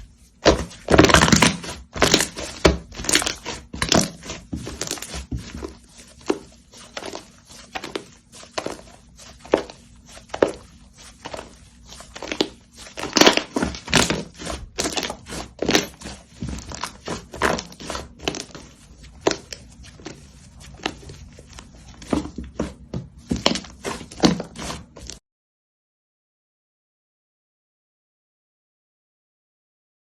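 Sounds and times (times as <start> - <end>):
slime squished by hand: 0.0 - 25.2.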